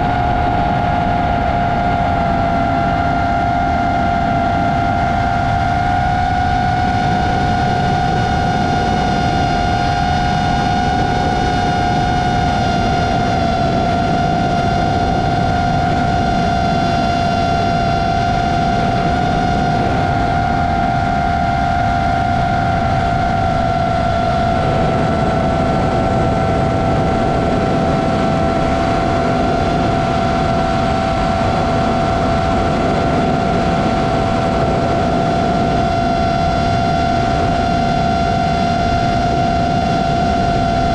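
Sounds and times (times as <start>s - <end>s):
drone motors whining: 0.0s - 40.9s
wind rush on microphone: 0.0s - 40.9s.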